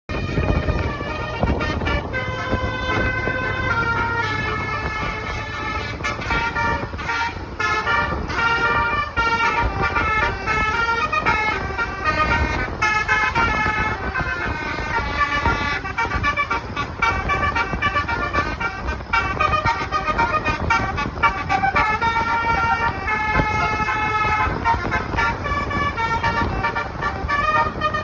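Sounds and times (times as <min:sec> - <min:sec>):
musical air horn melody: 0:00.1 - 0:28.0.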